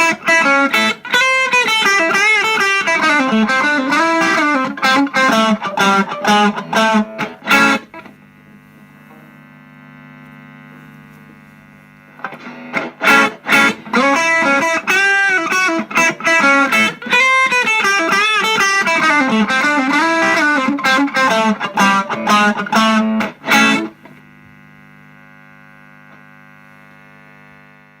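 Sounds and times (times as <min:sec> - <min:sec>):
overdriven electric guitar: 0:00.0 - 0:27.9.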